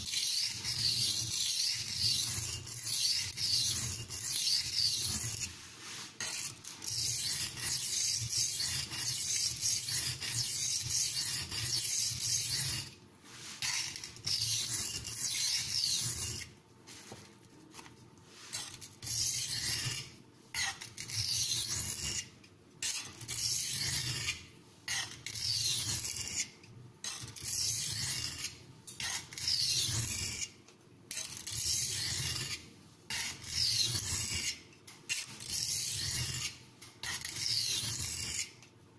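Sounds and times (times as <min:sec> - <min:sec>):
knife scraping on oilstone: 0:00.0 - 0:38.6.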